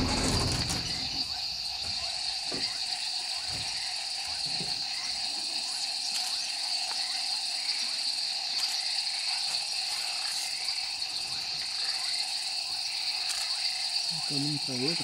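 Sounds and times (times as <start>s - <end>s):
insects buzzing trill: 0.0s - 15.0s.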